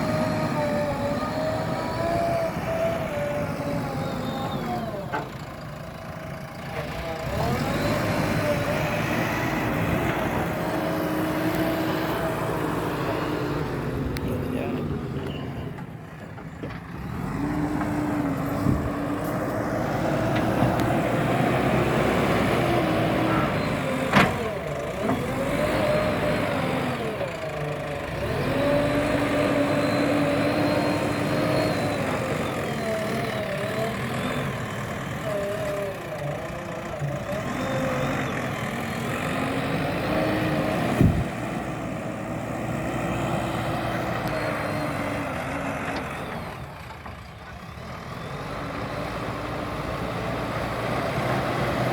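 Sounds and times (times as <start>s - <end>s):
diesel engine revving: 0.0s - 51.9s.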